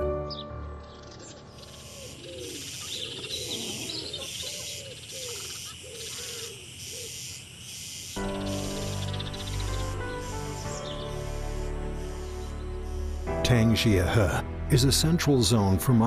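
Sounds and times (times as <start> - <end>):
higher bird chirps: 0.2 - 13.8.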